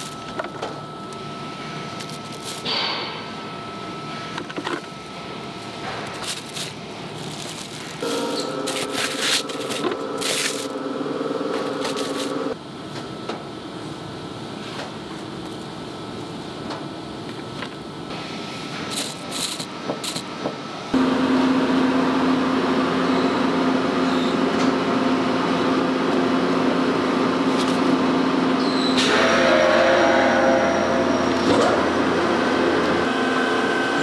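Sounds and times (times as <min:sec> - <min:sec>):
factory machinery hum: 0:00.0 - 0:34.0.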